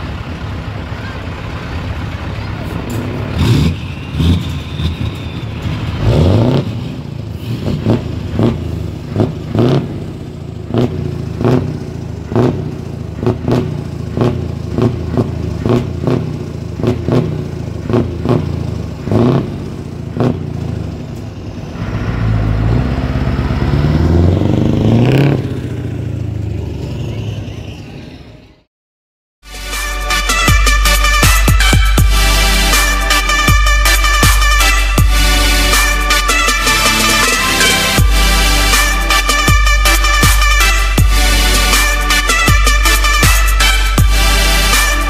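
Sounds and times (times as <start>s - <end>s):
truck engine idling: 0.0s - 24.8s, 29.6s - 45.0s
truck engine revving: 0.0s - 27.9s, 29.5s - 45.0s.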